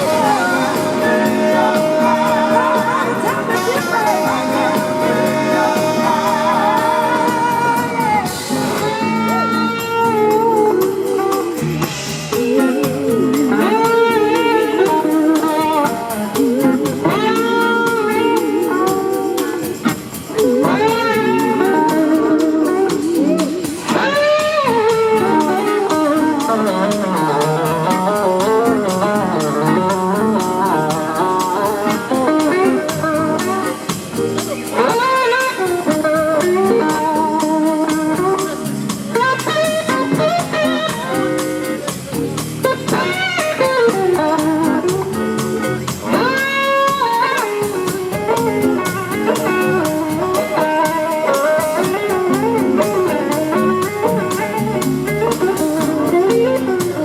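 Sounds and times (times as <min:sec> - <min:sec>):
blues-rock band playing: 0:00.0 - 0:57.0
electric guitar solo: 0:00.0 - 0:57.0.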